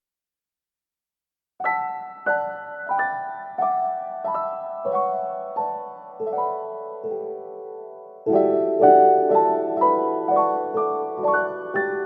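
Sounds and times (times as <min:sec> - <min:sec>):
soft piano chords: 0:01.6 - 0:12.0.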